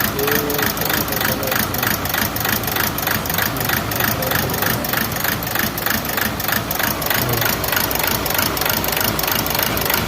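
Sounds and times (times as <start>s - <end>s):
diesel engine idling with misfire: 0.0s - 10.0s.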